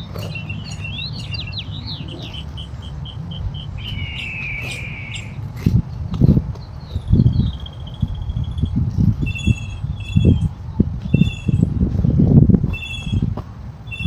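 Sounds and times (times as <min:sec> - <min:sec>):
songbird singing: 0:00.0 - 0:11.8, 0:12.6 - 0:14.0.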